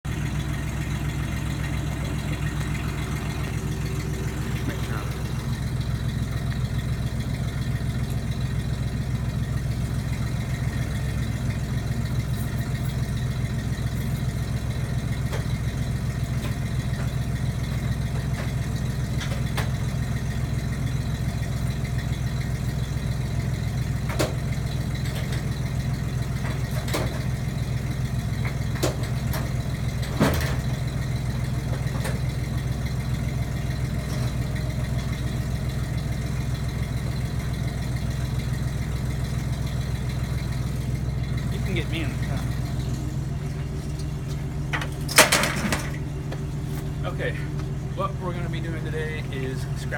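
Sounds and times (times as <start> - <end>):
low motor hum: 0.0 - 49.9.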